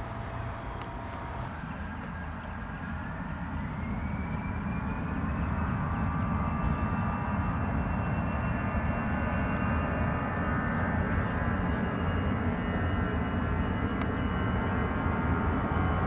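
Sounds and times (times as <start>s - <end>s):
jet engines rumbling and whining: 0.0s - 16.0s.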